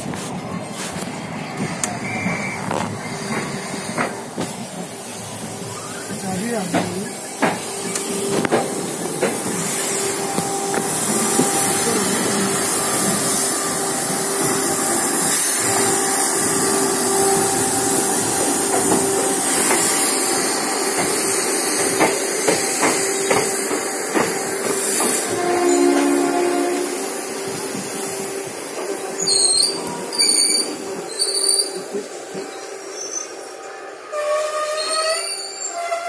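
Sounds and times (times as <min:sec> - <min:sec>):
train running rumble and hiss: 0:00.0 - 0:36.0.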